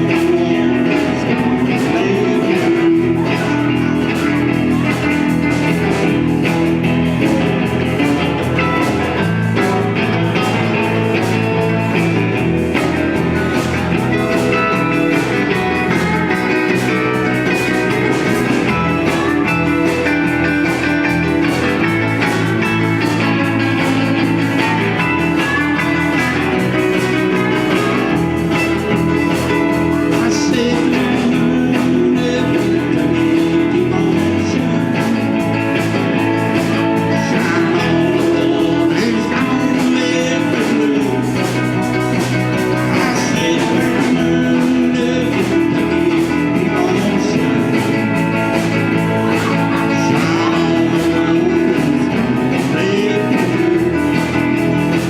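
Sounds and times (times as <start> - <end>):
band playing guitar music: 0.0 - 55.0
bass line: 0.0 - 55.0.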